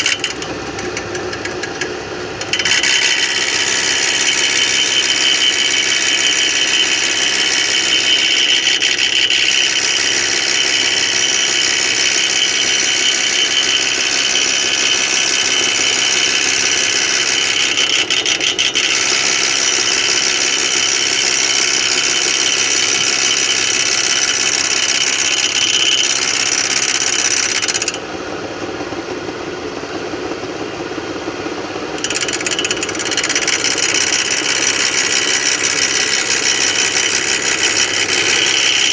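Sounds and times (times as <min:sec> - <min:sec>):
lathe running with hissing whir: 0:00.0 - 0:38.9.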